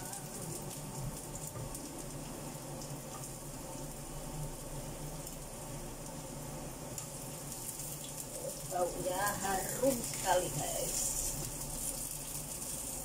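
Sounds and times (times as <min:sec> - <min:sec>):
low steady hum: 0:00.0 - 0:13.0
oil sizzling in a frying pan: 0:00.0 - 0:13.0.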